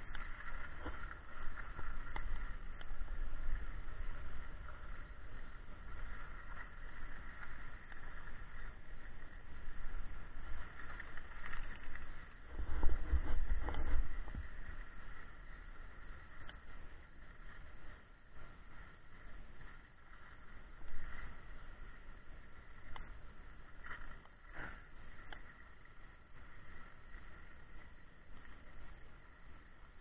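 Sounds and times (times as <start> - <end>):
skis scraping over snow: 0.0 - 30.0
wind rumbling on microphone: 0.0 - 30.0.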